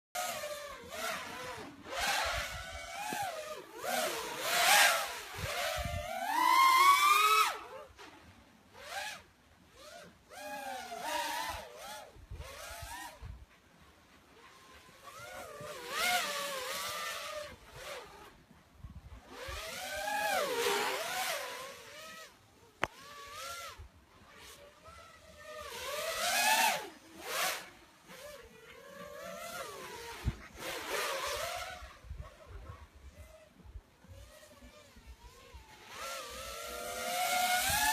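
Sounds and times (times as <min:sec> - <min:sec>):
drone motors whining: 0:00.2 - 0:37.9.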